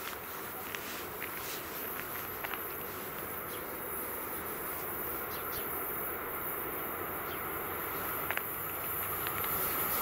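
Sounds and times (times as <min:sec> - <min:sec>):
distant train rumble: 0:00.0 - 0:10.0.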